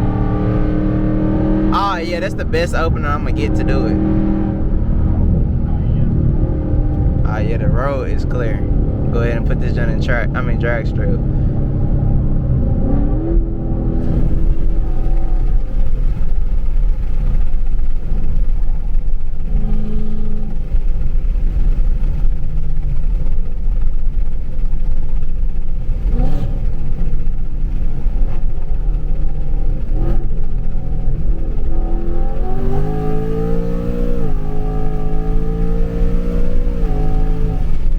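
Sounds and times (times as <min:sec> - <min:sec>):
car engine revving at full throttle: 0:00.0 - 0:37.9.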